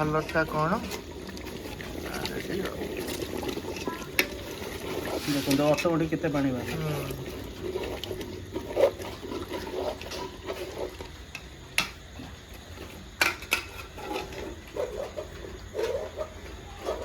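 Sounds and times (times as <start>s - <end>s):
metal spoon stirring curry: 0.0s - 17.0s.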